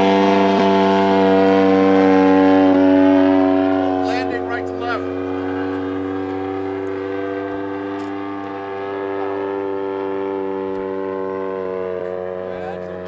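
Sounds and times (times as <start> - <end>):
model plane engine drone: 0.0 - 13.0.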